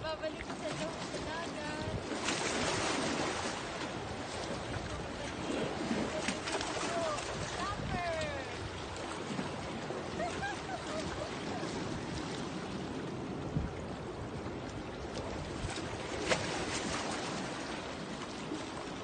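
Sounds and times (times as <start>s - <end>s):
sea washing against rocks: 0.0s - 19.0s
wind: 0.0s - 19.0s.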